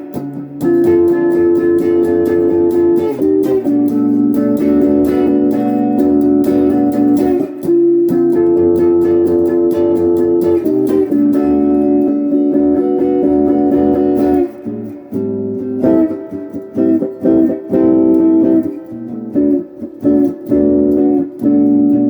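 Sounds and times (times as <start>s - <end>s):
overdriven electric guitar chords: 0.0s - 22.0s.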